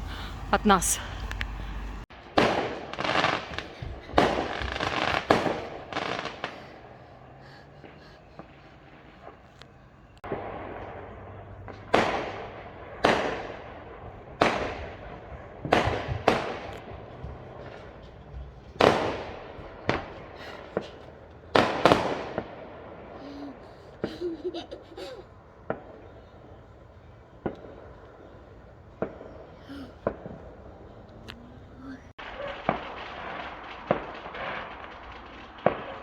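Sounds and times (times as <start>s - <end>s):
fireworks exploding: 0.0s - 31.6s, 32.2s - 36.0s
fireworks crackling: 0.0s - 36.0s.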